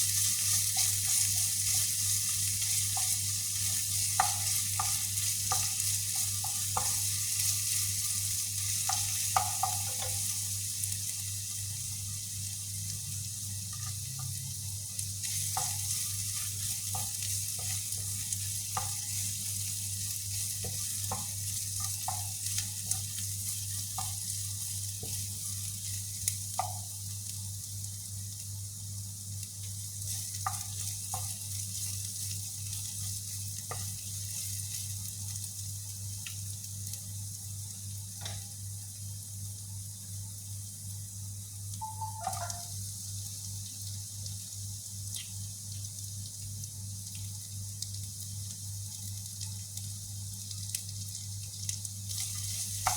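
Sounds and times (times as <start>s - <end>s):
meatballs sizzling in oil: 0.0s - 52.9s.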